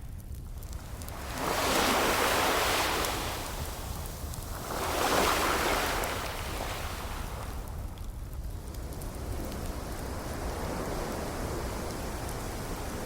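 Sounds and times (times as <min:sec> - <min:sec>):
wood fire crackling: 0:00.0 - 0:13.0
ocean waves breaking on shore: 0:00.9 - 0:07.7, 0:08.9 - 0:13.0.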